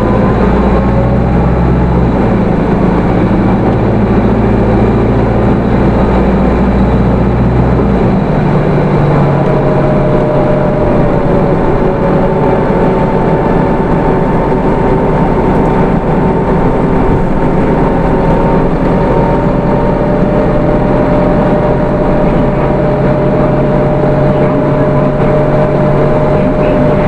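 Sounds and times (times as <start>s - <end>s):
diesel bus engine running: 0.0s - 27.0s
road noise: 0.0s - 27.0s
steady drivetrain whine: 0.0s - 27.0s.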